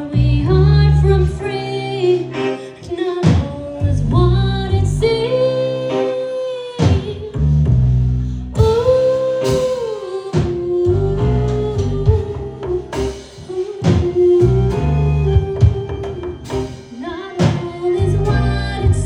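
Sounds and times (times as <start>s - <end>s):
drum kit: 0.0s - 5.4s, 6.7s - 19.0s
woman singing: 0.0s - 7.4s, 8.5s - 19.0s
bass guitar: 0.0s - 19.0s
electric guitar: 0.0s - 19.0s.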